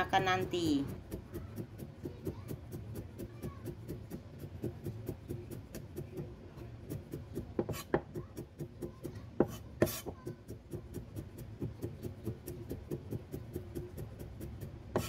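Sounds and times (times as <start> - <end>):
cleaver chopping on wooden board: 0.9 - 15.0.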